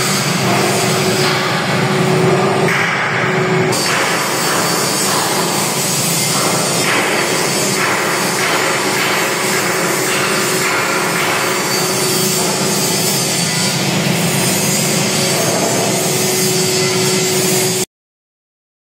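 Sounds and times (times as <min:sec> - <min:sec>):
metal lathe running: 0:00.0 - 0:17.8
steady machine hum: 0:00.0 - 0:17.9.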